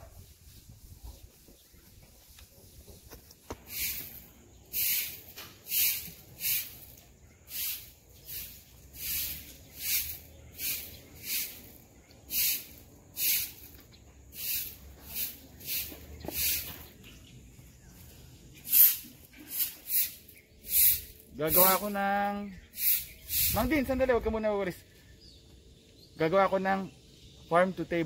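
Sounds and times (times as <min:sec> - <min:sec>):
broom sweeping pavement: 0:00.0 - 0:24.3.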